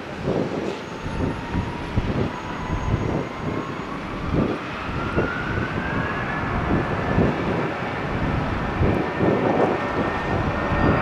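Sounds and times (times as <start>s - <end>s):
jet engines spooling up: 0.1s - 11.0s.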